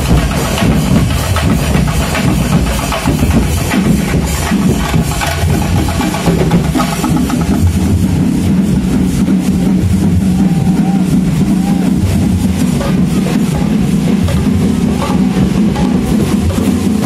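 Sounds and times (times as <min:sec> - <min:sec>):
procession drumming: 0:00.0 - 0:17.0.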